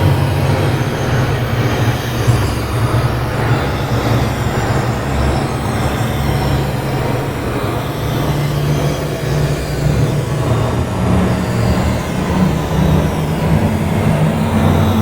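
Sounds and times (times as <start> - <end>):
deep rumbling drone: 0.0 - 15.0
noisy wash: 0.0 - 15.0.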